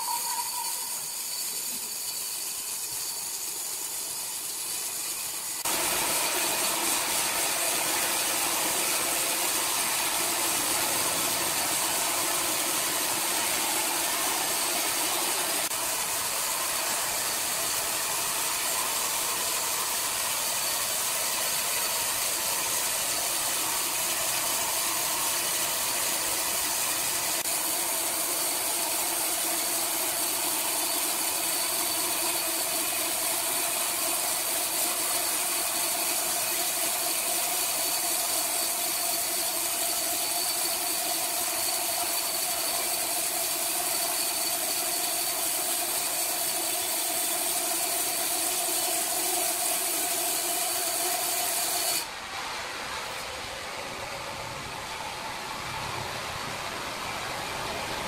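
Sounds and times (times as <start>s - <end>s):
band saw blade hissing in wood: 0.0s - 52.1s.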